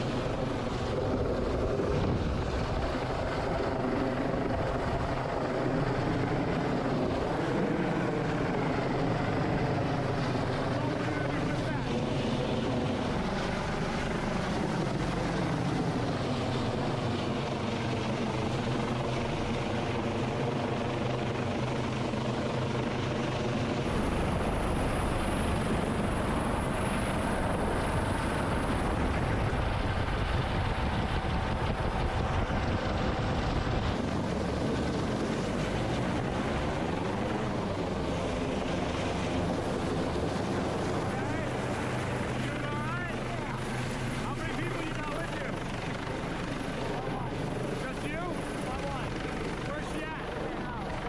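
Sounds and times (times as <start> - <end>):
helicopter rotor and turbine: 0.0 - 51.0.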